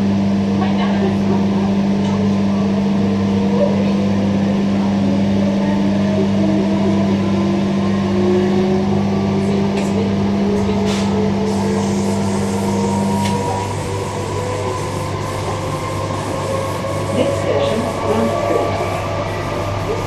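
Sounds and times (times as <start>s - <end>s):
train traction motor whine: 0.0s - 20.0s.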